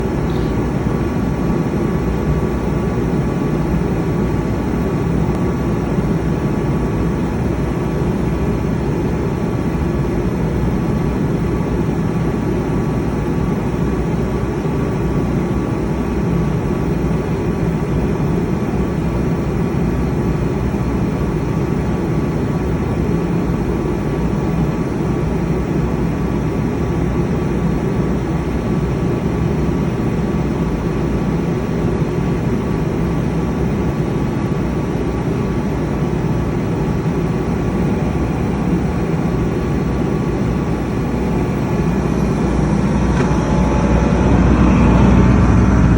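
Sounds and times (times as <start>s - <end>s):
diesel generator droning: 0.0s - 45.9s
faint steady whine: 0.0s - 45.9s.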